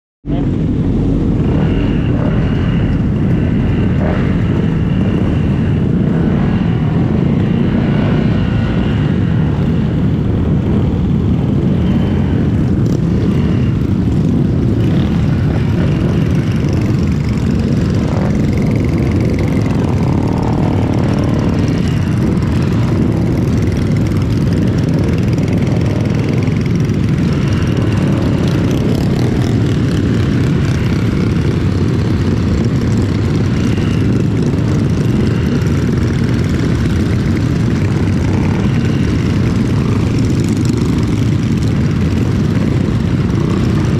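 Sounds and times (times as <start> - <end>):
road noise: 0.2 - 43.9
wind buffeting microphone: 0.2 - 43.9
scooter engine: 0.3 - 43.9.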